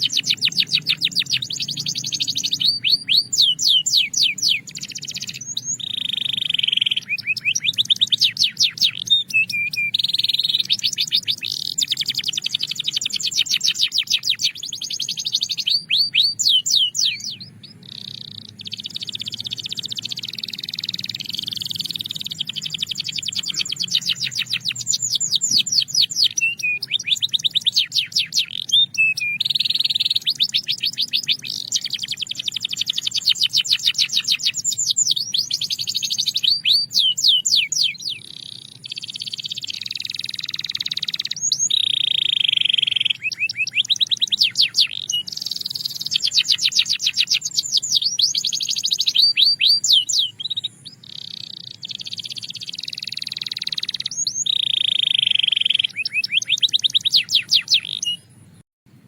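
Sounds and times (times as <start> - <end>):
canary singing: 0.0 - 58.6.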